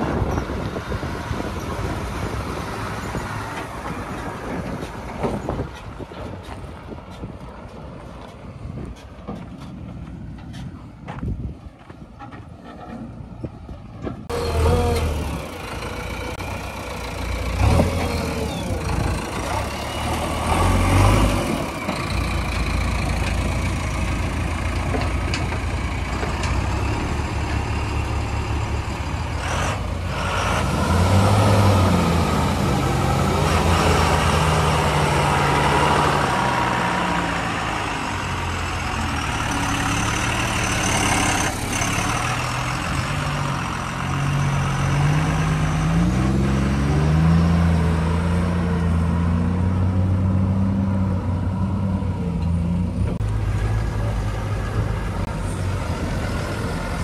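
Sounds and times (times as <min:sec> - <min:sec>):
truck diesel engine pulling away: 0:00.0 - 0:08.6, 0:14.2 - 0:57.0.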